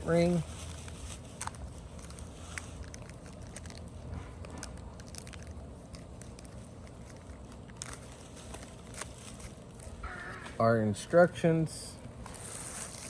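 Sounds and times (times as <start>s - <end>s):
steady low hum: 0.0s - 13.0s
plastic packaging crinkling: 0.1s - 10.0s, 12.2s - 13.0s.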